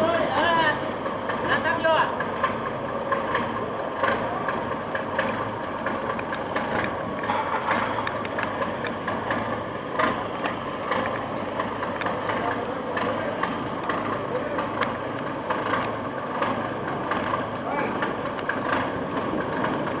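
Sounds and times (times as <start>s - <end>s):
boat engine clattering: 0.0s - 20.0s.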